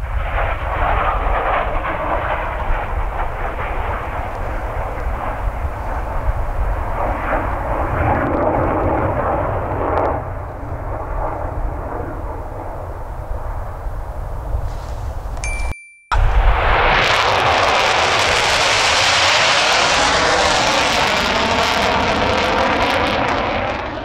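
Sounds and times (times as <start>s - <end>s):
fighter jet passing: 0.0s - 14.6s, 16.2s - 24.0s.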